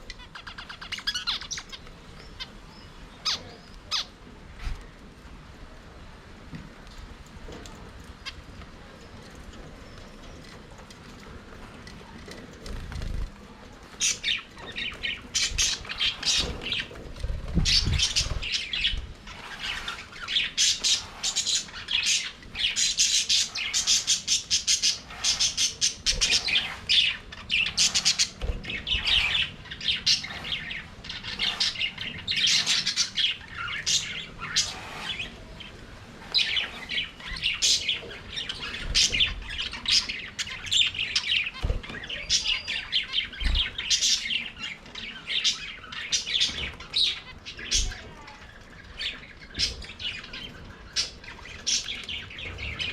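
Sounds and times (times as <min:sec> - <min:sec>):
budgerigars chattering and warbling: 0:00.0 - 0:04.2, 0:14.0 - 0:52.9.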